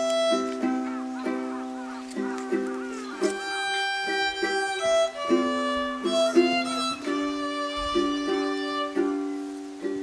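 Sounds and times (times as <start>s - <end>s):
violin melody: 0.0s - 10.0s.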